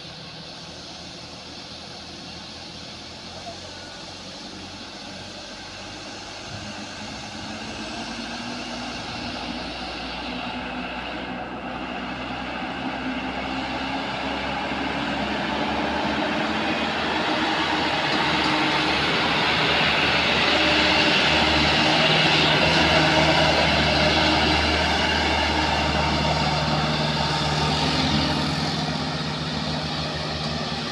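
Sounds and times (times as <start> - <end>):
diesel truck engines labouring: 0.0 - 30.9.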